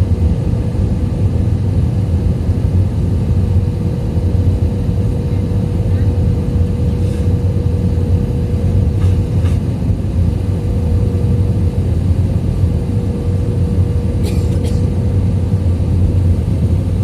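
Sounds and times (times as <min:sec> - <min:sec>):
aircraft cabin engine rumble: 0:00.0 - 0:17.0
steady hum: 0:00.0 - 0:17.0.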